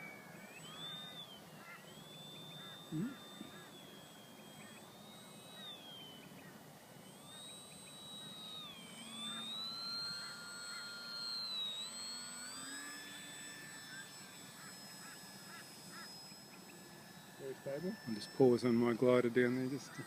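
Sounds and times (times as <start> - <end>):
model plane motor whining: 0.0 - 20.0.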